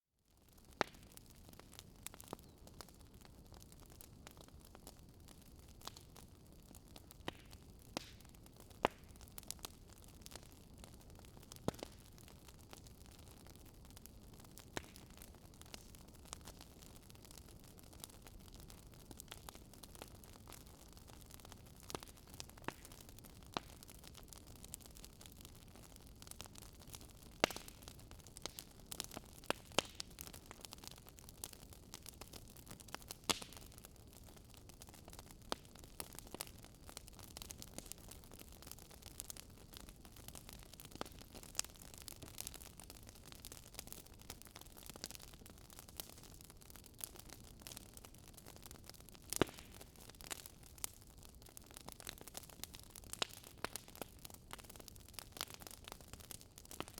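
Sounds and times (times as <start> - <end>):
wood fire crackling: 0.4 - 56.9.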